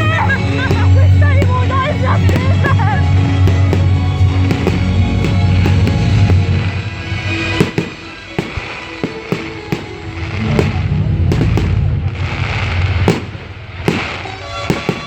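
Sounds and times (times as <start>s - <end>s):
loud music: 0.0s - 13.2s
fireworks bangs: 0.0s - 15.0s.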